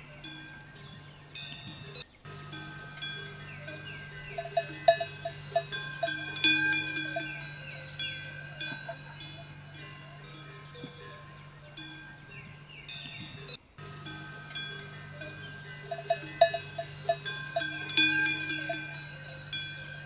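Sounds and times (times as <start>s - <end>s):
animal bells clanking: 0.0s - 20.0s
descending bird calls: 0.0s - 20.0s
steady low hum: 0.0s - 20.0s.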